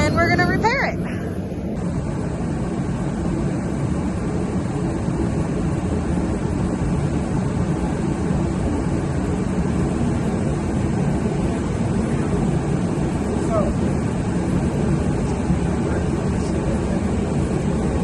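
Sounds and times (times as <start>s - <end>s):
forced-air heater running: 0.0s - 18.0s.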